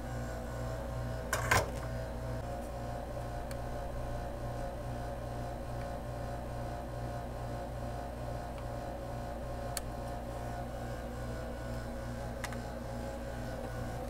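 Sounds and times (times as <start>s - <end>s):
quiet background music drone: 0.0s - 14.0s.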